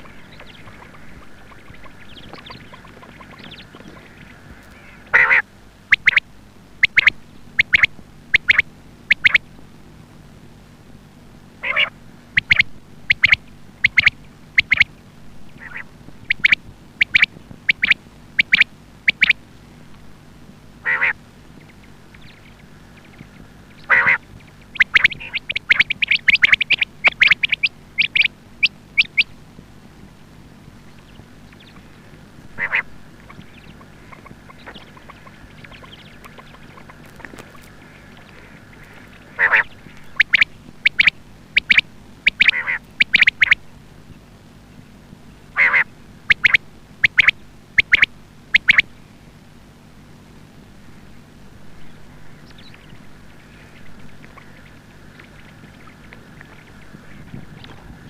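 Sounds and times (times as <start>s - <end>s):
quail calling: 0.0s - 9.5s, 11.6s - 19.5s, 20.8s - 29.4s, 30.8s - 43.7s, 45.5s - 49.0s, 51.6s - 58.0s.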